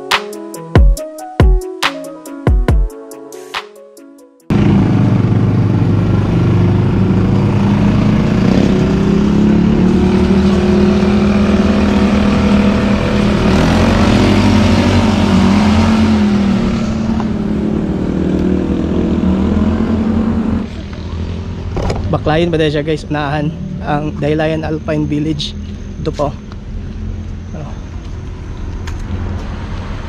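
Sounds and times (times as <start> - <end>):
road and wind noise: 4.5 - 30.0
vehicle engine running: 4.5 - 30.0.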